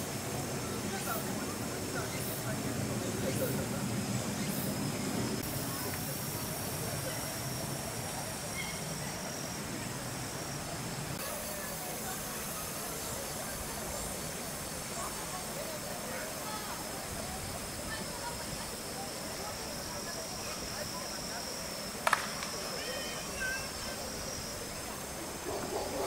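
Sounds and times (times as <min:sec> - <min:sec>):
distant human voices: 0:00.0 - 0:26.0
steady hiss: 0:00.0 - 0:26.0.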